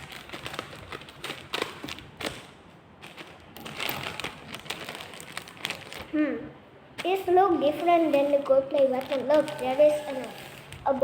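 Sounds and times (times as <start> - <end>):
package rustling: 0.0 - 6.2, 7.0 - 11.0.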